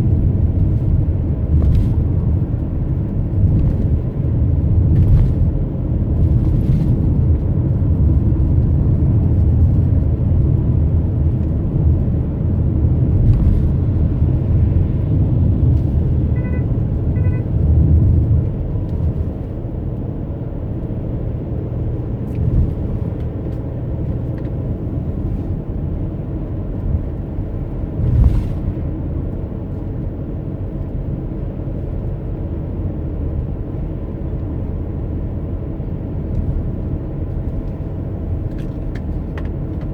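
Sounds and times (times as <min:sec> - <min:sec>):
car engine and tyres rumble: 0:00.0 - 0:39.9.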